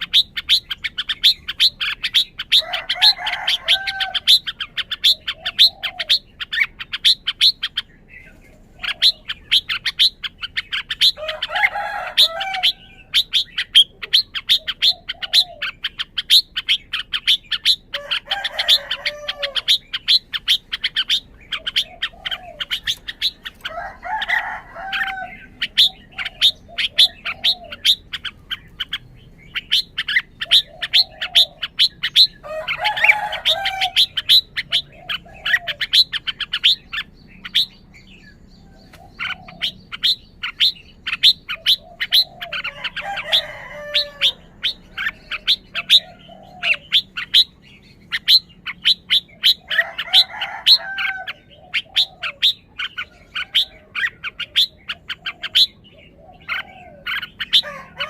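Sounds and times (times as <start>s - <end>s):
bird chirping: 0.0s - 58.0s
bird warbling song: 0.0s - 58.0s.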